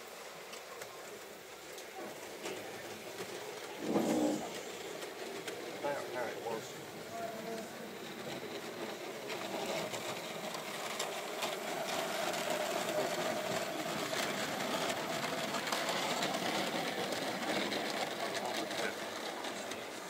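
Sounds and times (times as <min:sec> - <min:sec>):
wheels ticking over rail joints: 0:00.1 - 0:20.0
model train motor humming: 0:00.4 - 0:20.0.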